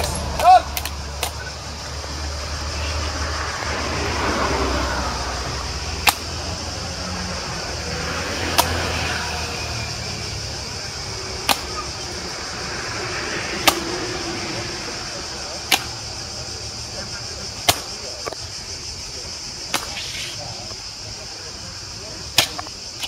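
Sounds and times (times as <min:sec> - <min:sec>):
faint voices: 0:00.0 - 0:23.0
street noise: 0:00.0 - 0:23.0.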